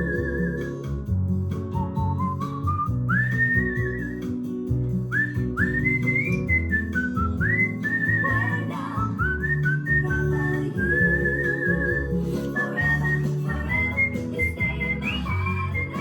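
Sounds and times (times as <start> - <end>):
cockatiel whistling: 0.0 - 0.9, 1.8 - 4.5, 5.1 - 16.0
background instrumental music: 0.0 - 16.0.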